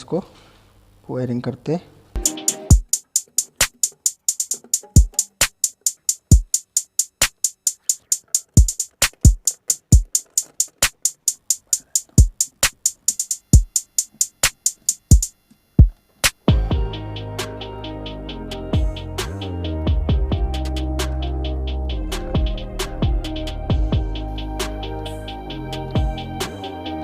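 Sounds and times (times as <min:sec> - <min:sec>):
electronic drum beat: 0:02.2 - 0:27.0.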